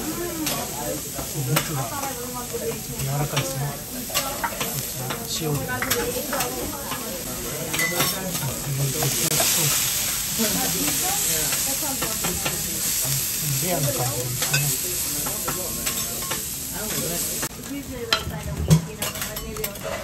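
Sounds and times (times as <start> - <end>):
meat sizzling on a griddle: 0.0 - 20.0.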